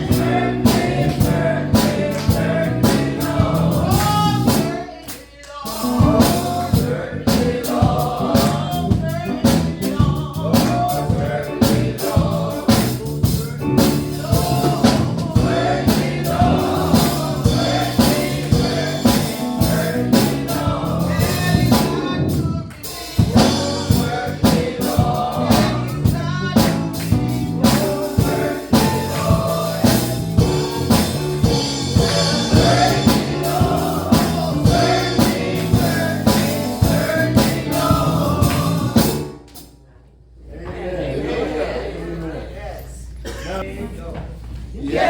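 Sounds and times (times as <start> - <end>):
band playing a steady beat: 0.0 - 5.0, 5.6 - 39.7
gospel choir singing: 0.0 - 39.5, 40.4 - 43.4, 44.8 - 45.0.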